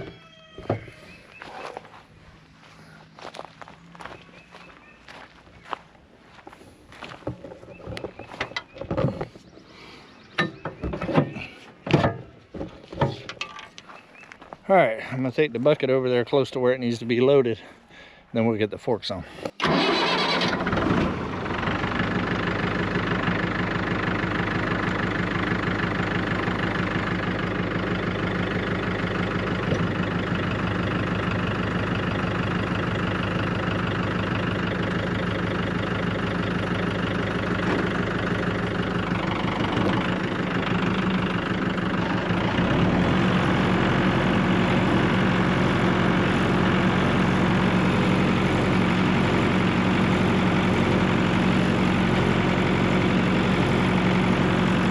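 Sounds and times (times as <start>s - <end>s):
tractor engine running: 0.0s - 17.4s, 18.1s - 54.9s.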